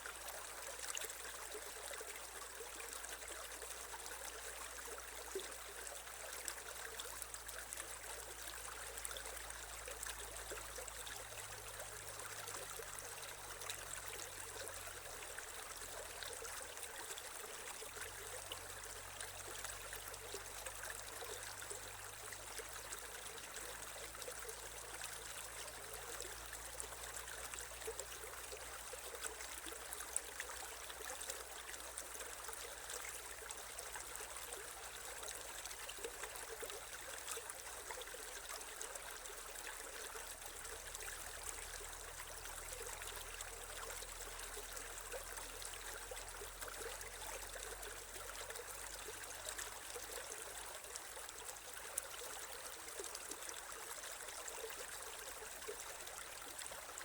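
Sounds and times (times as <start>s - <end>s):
creek water over stones: 0.0s - 57.0s.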